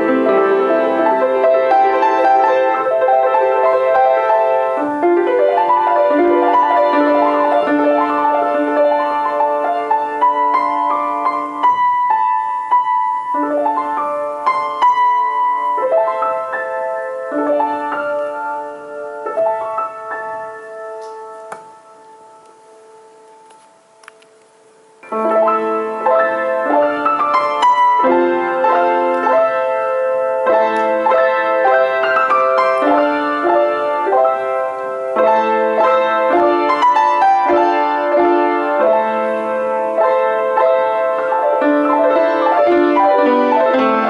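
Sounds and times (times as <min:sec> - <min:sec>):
solo piano playing: 0:00.0 - 0:44.0.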